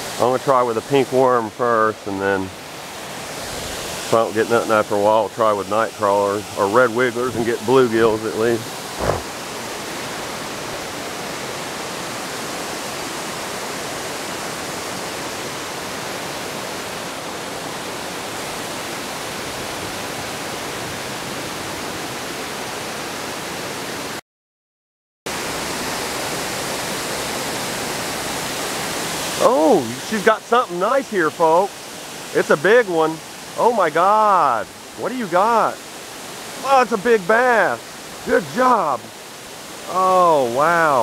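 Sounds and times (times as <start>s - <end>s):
water rushing over dam spillway: 0.0s - 24.2s, 25.3s - 41.0s.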